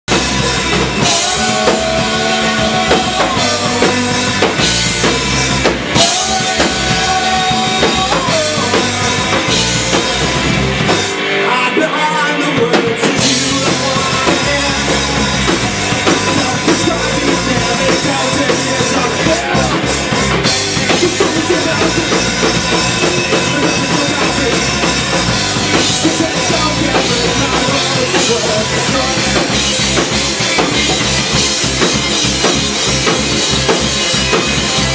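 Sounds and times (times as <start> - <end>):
bass drum: 0.1 - 11.2, 12.8 - 34.9
live band playing loudly: 0.1 - 34.9.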